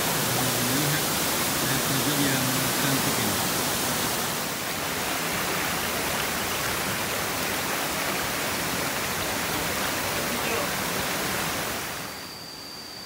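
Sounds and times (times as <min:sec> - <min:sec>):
waterfall rushing over boulders: 0:00.0 - 0:12.4.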